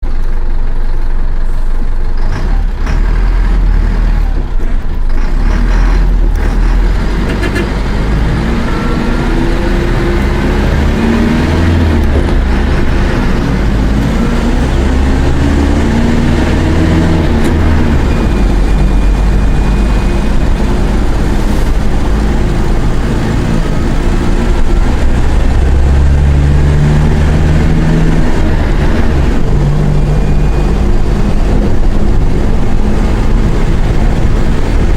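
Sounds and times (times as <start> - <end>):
bus diesel engine accelerating: 0.0 - 34.9.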